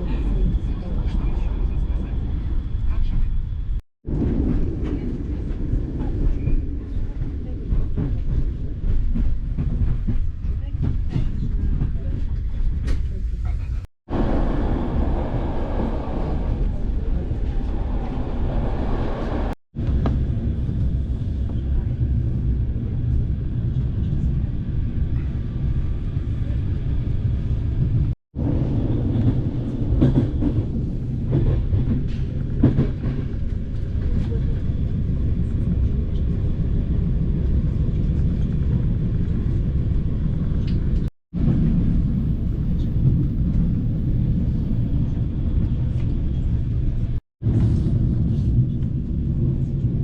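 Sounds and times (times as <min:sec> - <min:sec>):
train wheels rumbling on track: 0:00.0 - 0:50.0.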